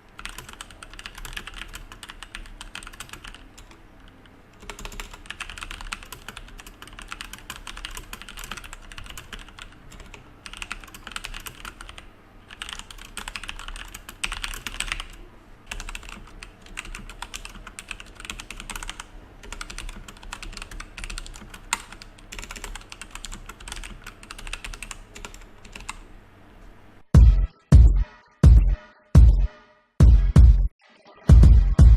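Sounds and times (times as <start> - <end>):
mechanical keyboard typing: 0.1 - 26.0.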